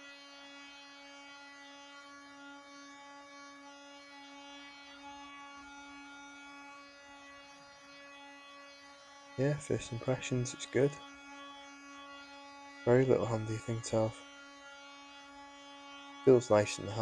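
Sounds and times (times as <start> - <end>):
oscillating multitool buzzing: 0.0 - 17.0.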